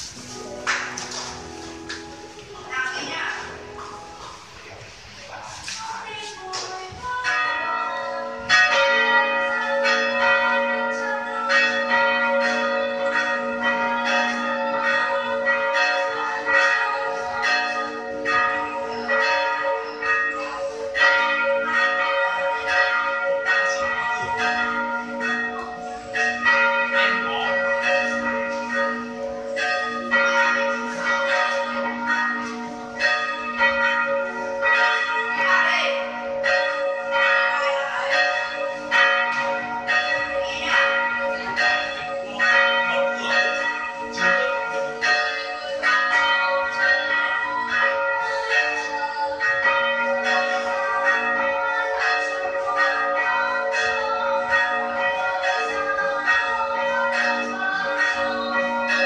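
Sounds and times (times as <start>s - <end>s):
church bells pealing: 0.0s - 59.0s.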